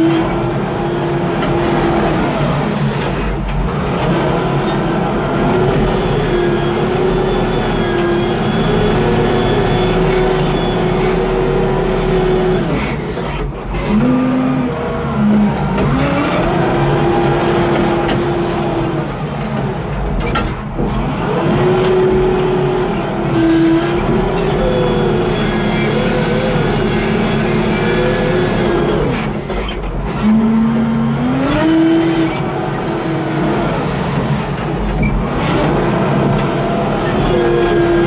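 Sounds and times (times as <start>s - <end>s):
diesel engine under load: 0.0s - 38.0s.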